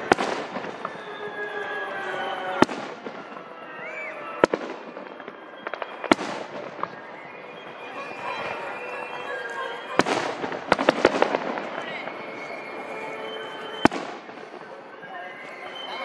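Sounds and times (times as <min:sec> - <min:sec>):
fireworks pops and crackles: 0:00.0 - 0:01.4, 0:02.2 - 0:16.0
fireworks bangs: 0:00.0 - 0:16.0.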